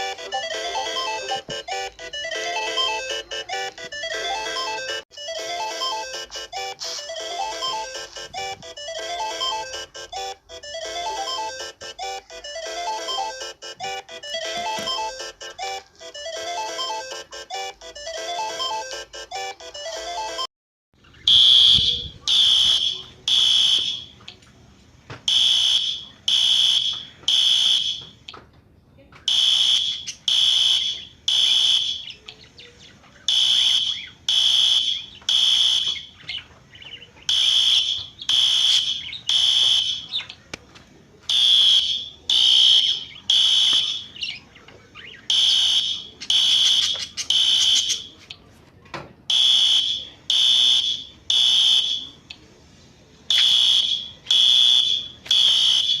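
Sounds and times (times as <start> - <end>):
fire alarm beeping: 0.0 - 20.5, 21.3 - 24.2, 25.3 - 28.1, 29.3 - 32.1, 33.3 - 36.1, 37.3 - 40.2, 41.3 - 44.1, 45.3 - 48.2, 49.3 - 52.2, 53.3 - 56.0.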